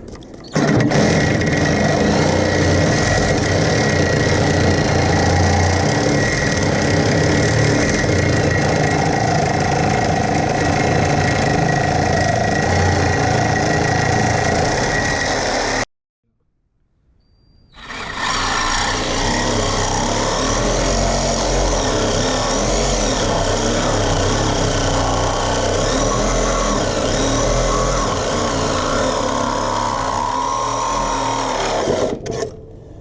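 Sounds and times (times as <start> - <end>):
reciprocating saw cutting steel: 0.5 - 15.9, 17.8 - 32.6.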